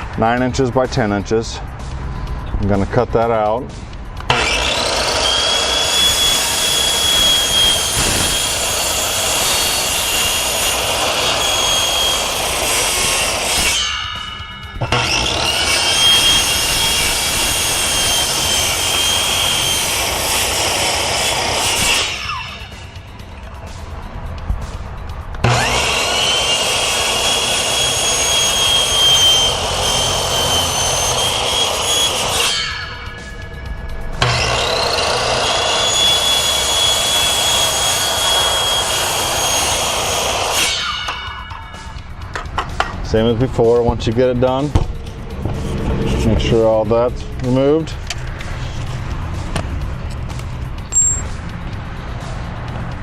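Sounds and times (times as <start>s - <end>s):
power saw whining: 4.2s - 23.9s, 25.3s - 51.4s.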